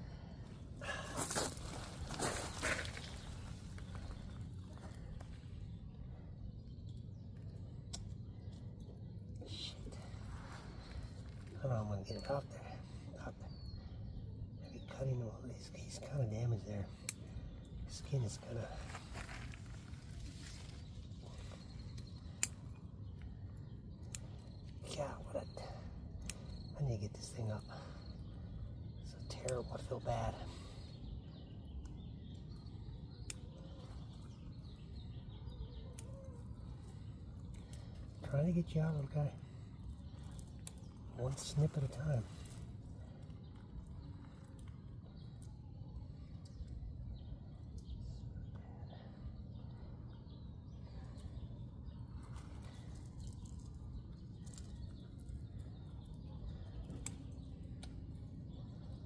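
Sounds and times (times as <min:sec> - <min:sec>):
faint birds chirping: 0:00.0 - 0:59.0
low outdoor rumble: 0:00.0 - 0:59.0.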